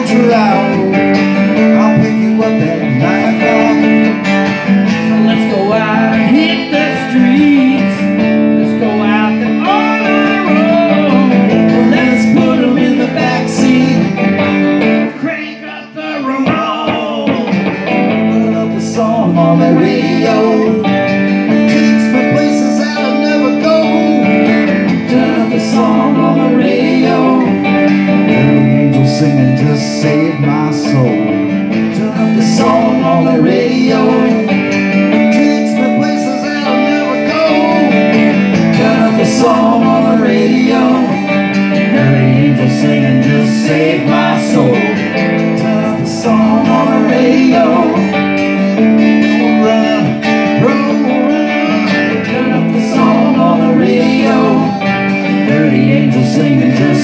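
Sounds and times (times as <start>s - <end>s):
acoustic guitar strumming: 0.0s - 57.0s
electric guitar: 0.0s - 57.0s.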